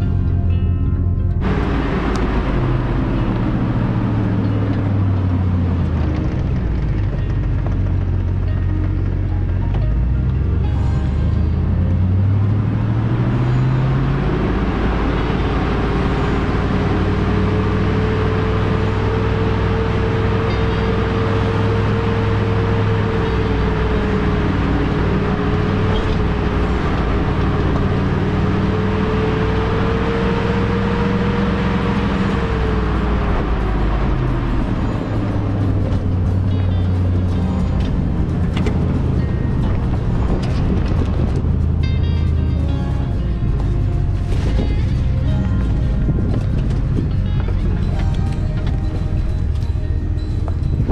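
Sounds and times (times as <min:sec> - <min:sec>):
pickup truck engine droning: 0:00.0 - 0:50.9.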